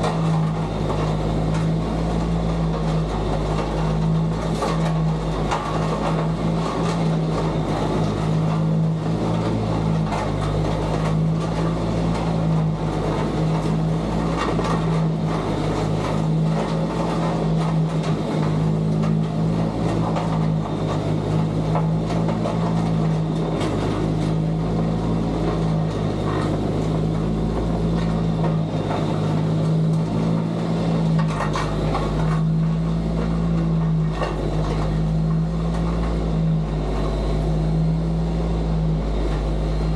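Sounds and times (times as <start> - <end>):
heavy equipment engine droning: 0.0 - 39.9
rough rattling and scraping: 0.0 - 39.9.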